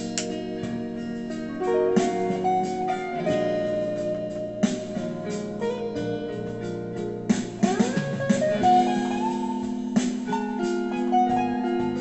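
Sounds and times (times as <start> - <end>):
electric guitar lead: 0.0 - 12.0
keyboard backing track: 0.0 - 12.0.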